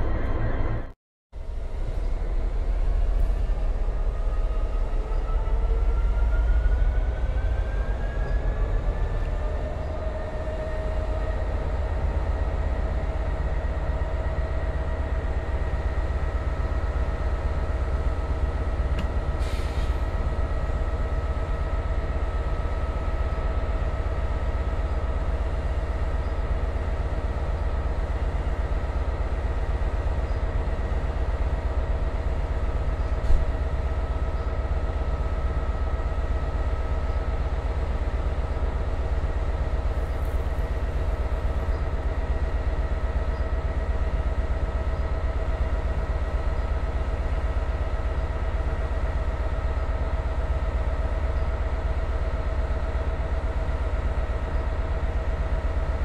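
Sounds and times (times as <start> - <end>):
locomotive diesel engine rumbling: 0.0 - 0.9, 1.5 - 56.0.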